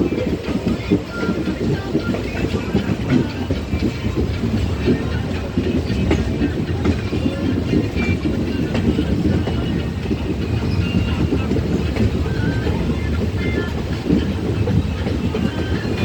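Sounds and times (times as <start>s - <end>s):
light rattles and clicks: 0.0s - 16.0s.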